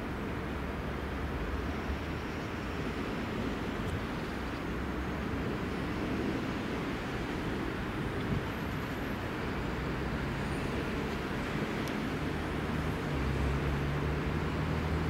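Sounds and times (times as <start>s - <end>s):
railcar low rumble: 0.0s - 15.0s.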